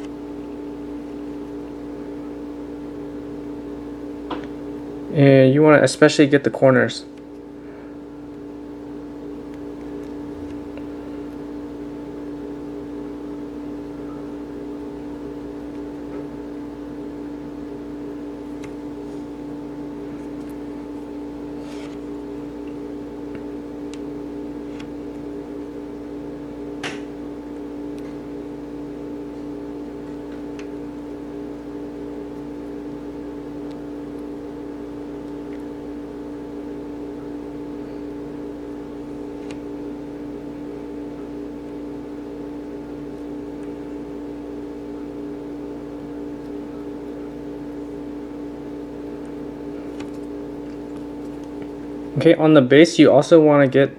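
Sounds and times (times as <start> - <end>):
steady mechanical hum: 0.0 - 53.9.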